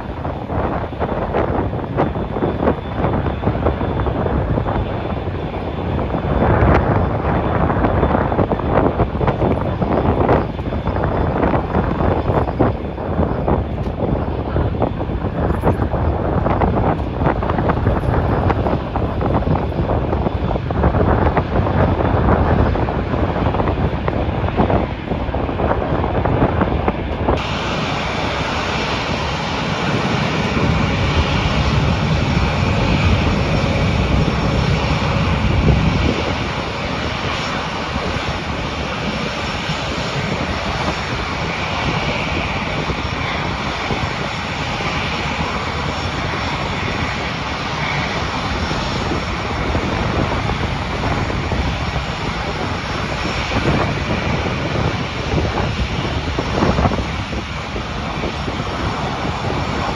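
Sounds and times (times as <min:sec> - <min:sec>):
deep engine rumble: 0:00.0 - 0:59.9
jet engines whining: 0:00.0 - 0:59.9
wind buffeting microphone: 0:00.0 - 0:59.9.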